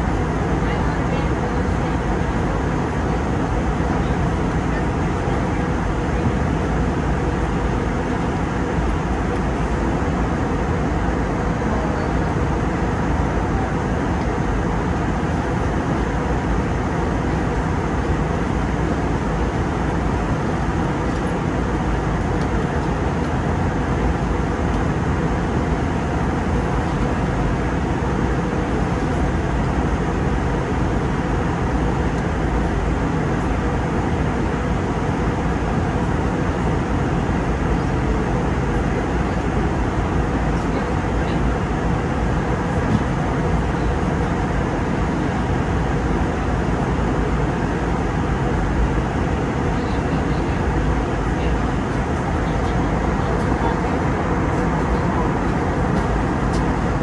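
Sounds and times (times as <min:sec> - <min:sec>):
airplane cabin noise: 0:00.0 - 0:57.0.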